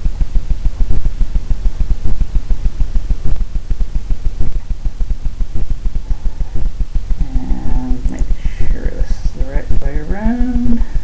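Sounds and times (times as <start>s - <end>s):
low rumbling with uneven flutter: 0.0s - 11.0s.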